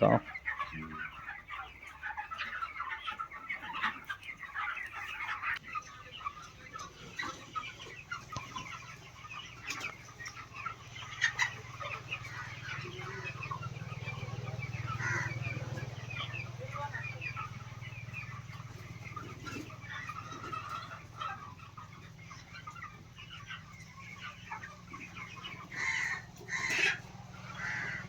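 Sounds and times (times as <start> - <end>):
chickens clucking and cheeping: 0.0 - 28.0.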